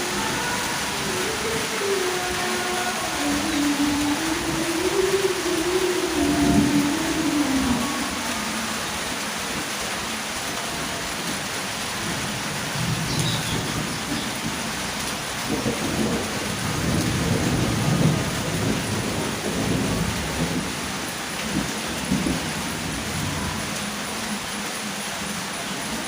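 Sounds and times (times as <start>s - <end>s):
thunder rumbling: 0.0s - 23.8s
steady rain falling: 0.0s - 26.0s.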